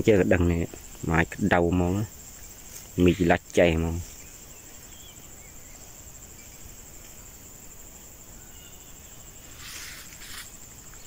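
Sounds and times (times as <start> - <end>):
faint chirps: 0.0 - 11.0
insects trilling: 0.0 - 11.0.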